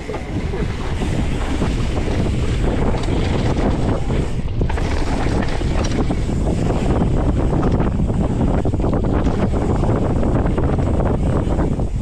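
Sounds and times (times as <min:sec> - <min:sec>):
bike rattling over rough trail: 0:00.0 - 0:12.0
wind rushing over microphone: 0:00.0 - 0:12.0.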